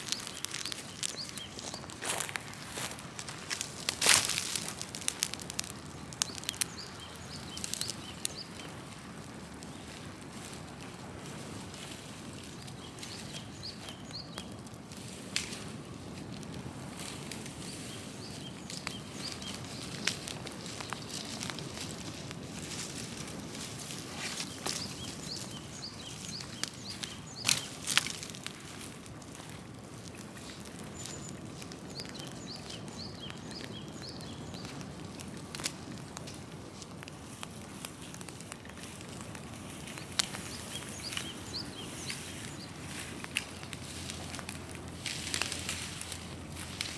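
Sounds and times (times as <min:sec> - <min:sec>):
fire crackling and popping: 0:00.0 - 0:46.9
large fire burning: 0:00.0 - 0:46.9.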